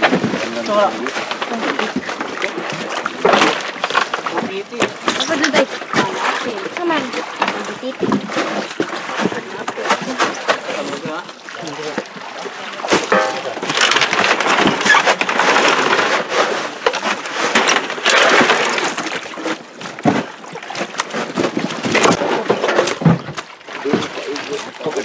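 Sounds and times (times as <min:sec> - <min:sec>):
fish clattering in plastic crates: 0:00.0 - 0:25.0
fish slapping: 0:00.0 - 0:25.0.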